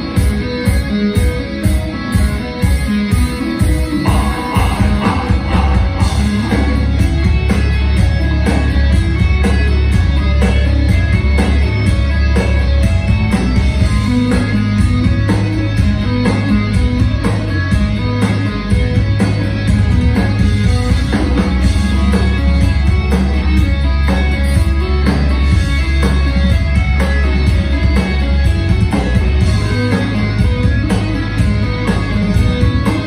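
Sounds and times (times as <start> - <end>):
live metal band playing: 0.0 - 33.0.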